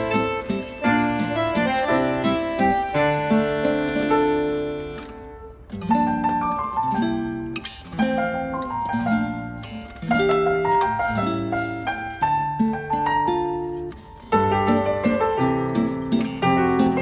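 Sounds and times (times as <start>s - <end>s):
plucked harp-like instrumental music: 0.0s - 17.0s.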